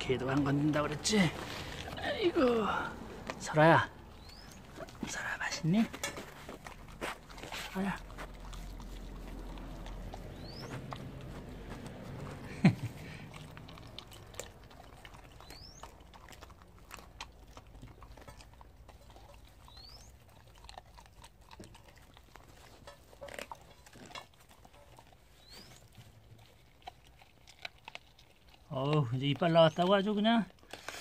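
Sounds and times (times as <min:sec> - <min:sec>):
dog chewing and crunching bones: 0:00.0 - 0:31.0.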